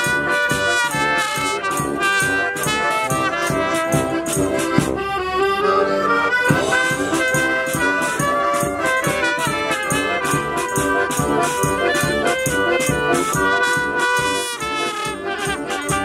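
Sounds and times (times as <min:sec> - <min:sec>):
drums and cymbals beat: 0:00.0 - 0:05.0, 0:06.5 - 0:16.0
street band playing: 0:00.0 - 0:16.0.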